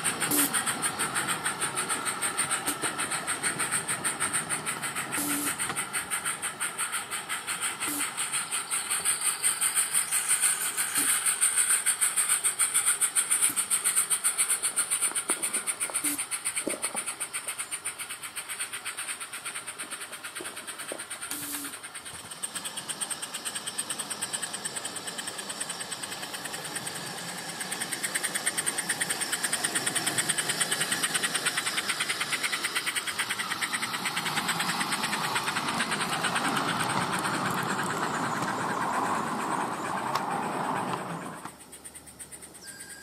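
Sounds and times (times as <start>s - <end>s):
model locomotive chuffing: 0.0s - 43.0s.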